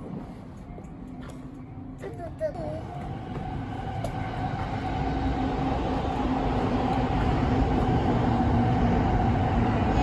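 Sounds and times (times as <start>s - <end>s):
electric train rumbling past: 0.0s - 10.0s.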